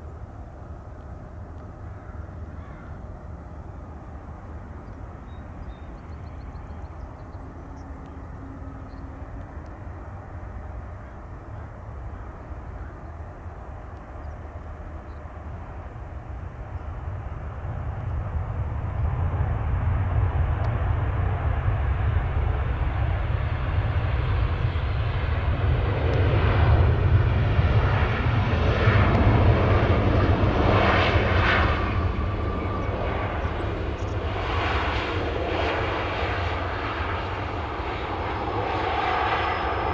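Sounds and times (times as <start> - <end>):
jet airliner engines passing: 0.0 - 39.9.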